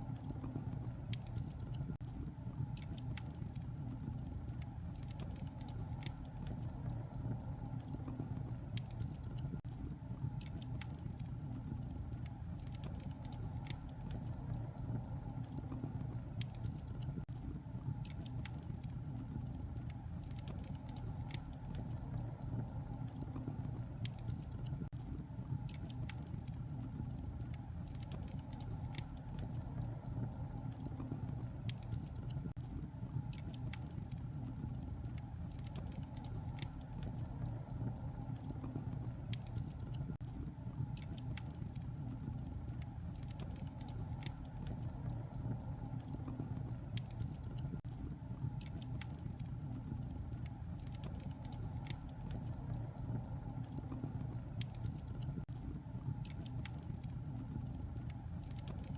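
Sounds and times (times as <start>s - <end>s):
fire crackling and popping: 0.0s - 58.9s
low rumble of flames: 0.0s - 58.9s.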